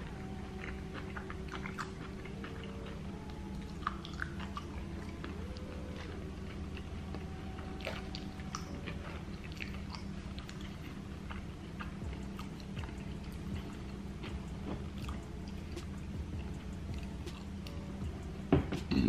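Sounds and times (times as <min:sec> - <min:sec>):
close-miked chewing: 0:00.0 - 0:19.0
steady low hum: 0:00.0 - 0:19.0.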